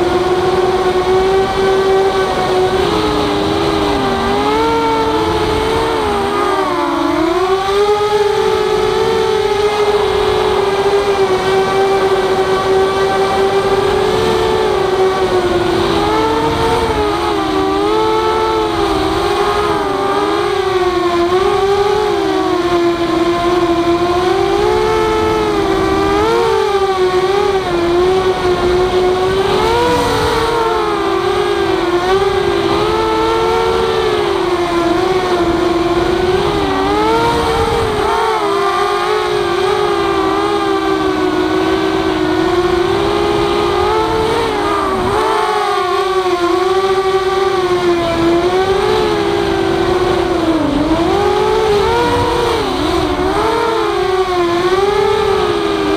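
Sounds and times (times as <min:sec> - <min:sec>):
quadcopter motors whining: 0:00.0 - 0:55.9.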